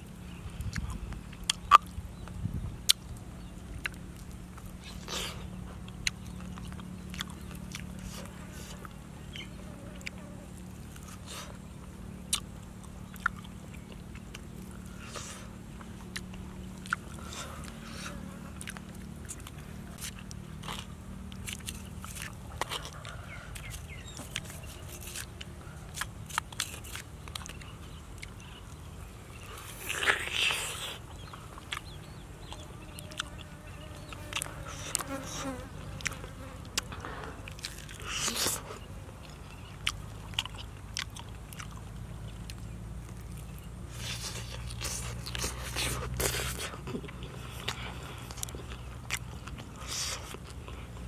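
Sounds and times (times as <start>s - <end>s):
chewing and crunching: 0.0s - 51.0s.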